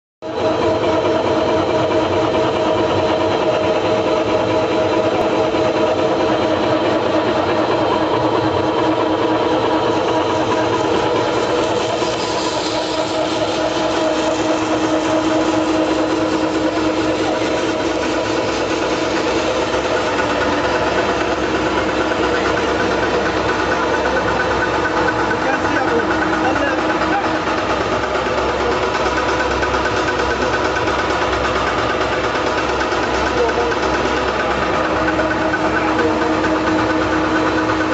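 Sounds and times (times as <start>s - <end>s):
machinery hum: 0.3s - 37.9s.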